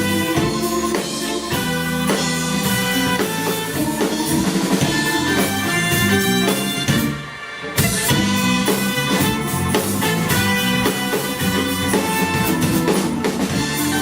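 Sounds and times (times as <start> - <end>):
live band with drum kit: 0.0 - 14.0.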